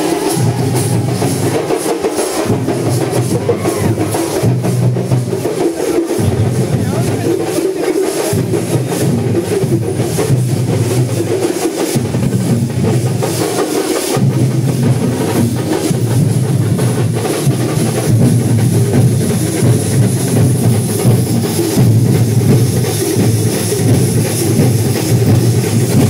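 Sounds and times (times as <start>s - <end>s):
rapid loud drumming: 0.0s - 26.0s.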